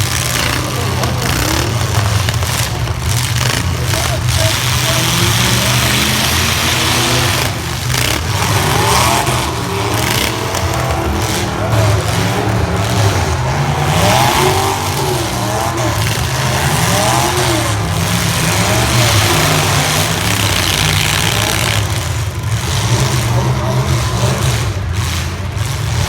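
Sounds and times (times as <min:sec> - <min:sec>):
pickup truck engines revving: 0:00.0 - 0:26.0.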